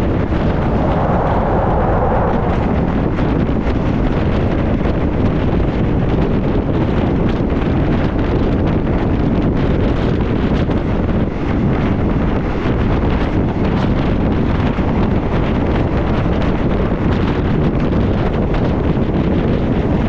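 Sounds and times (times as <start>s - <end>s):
train rumbling along track: 0.0s - 20.0s
wind rushing over microphone: 0.0s - 20.0s.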